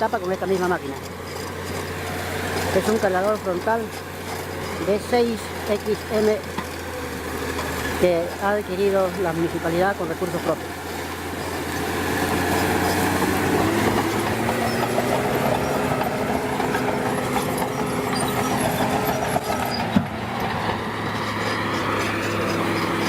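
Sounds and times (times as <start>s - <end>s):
earthmoving machine diesel engine: 0.0s - 23.0s.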